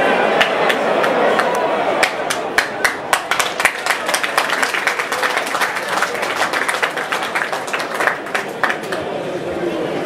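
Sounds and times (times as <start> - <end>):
crowd chatter: 0.0 - 10.0
hand claps: 0.3 - 9.0.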